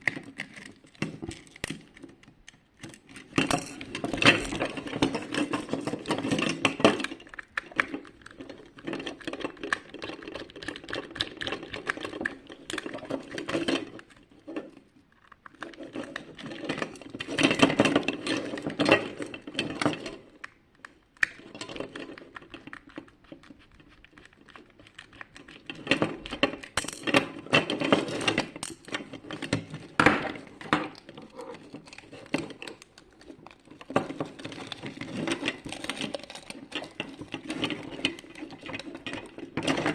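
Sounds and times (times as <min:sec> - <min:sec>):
tools clicking and scraping on parts: 0:00.0 - 0:23.1, 0:24.5 - 0:39.9.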